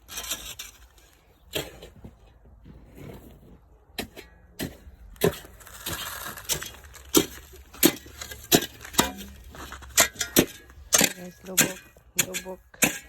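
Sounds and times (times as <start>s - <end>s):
ice scraping and crunching: 0.0s - 12.5s.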